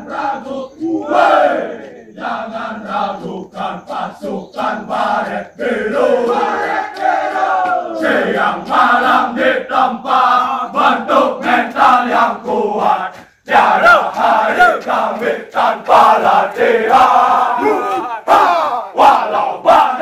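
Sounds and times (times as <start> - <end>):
young men singing in unison: 0.0 - 20.0.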